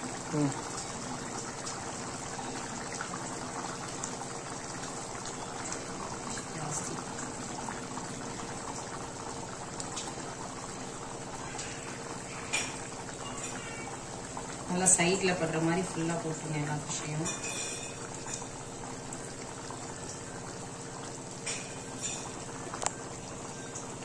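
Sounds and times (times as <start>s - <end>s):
curry bubbling in a pan: 0.0s - 24.0s.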